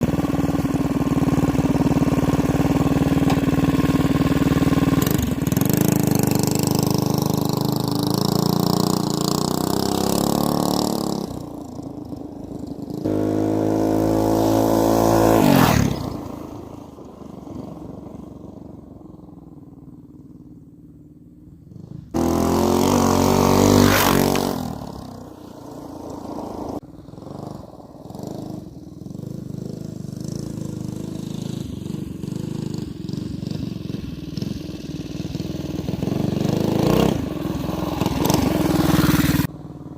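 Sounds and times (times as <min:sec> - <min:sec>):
small engine revving: 0:00.0 - 0:20.6, 0:21.5 - 0:39.9.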